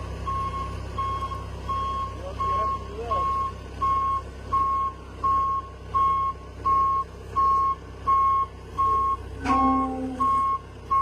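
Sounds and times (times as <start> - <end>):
diesel engine rumble: 0.0 - 11.0
reversing alarm beeping: 0.2 - 11.0.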